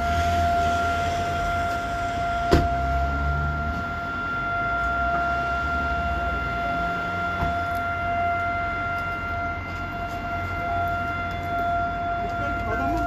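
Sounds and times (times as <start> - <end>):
low street rumble: 0.0 - 13.0
siren steady tone: 0.0 - 13.0.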